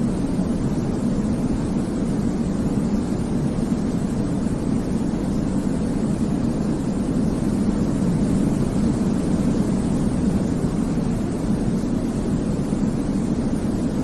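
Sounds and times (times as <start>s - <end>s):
deep rumbling white noise: 0.0s - 14.0s.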